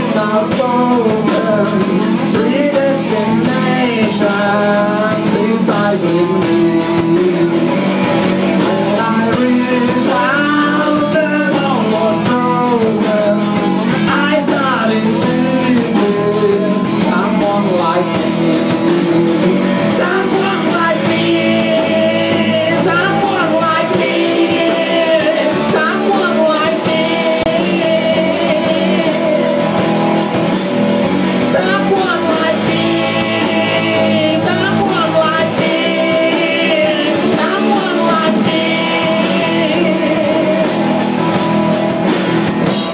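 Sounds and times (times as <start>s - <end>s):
man singing: 0.0s - 30.2s, 31.2s - 41.5s
rock band playing: 0.0s - 42.9s.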